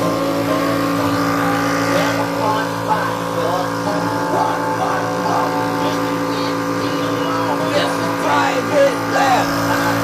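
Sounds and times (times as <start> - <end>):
air compressor humming: 0.0 - 10.0.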